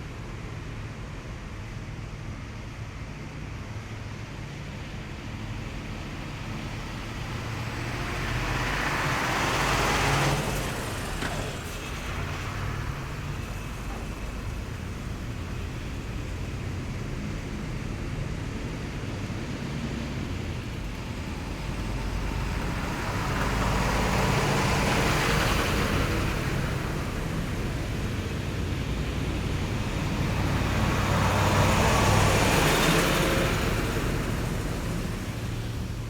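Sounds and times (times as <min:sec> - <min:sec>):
heavy vehicles driving past: 0:03.2 - 0:36.0.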